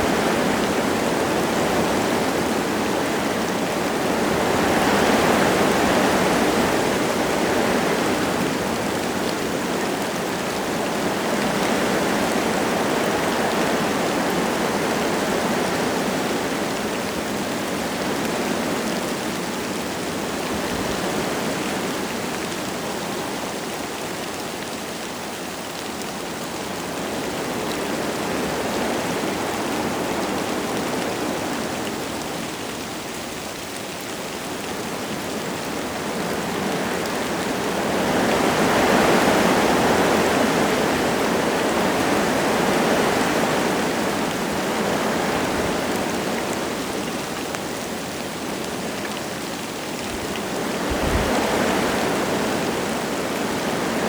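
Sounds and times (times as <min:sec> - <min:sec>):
light rain falling: 0:00.0 - 0:54.0
wind gusting through trees: 0:00.0 - 0:54.0.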